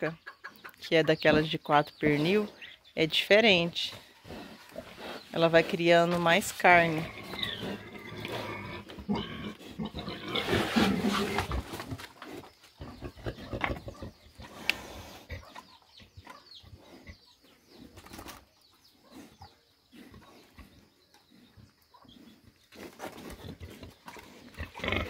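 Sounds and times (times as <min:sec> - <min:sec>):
pigs grunting and snuffling: 0:00.2 - 0:25.0.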